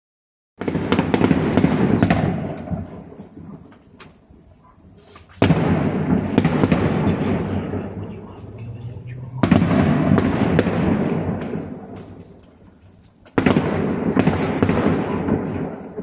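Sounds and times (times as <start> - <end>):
firework cracks: 0.6 - 4.4, 5.0 - 16.0
fireworks booming and crackling: 0.6 - 16.0.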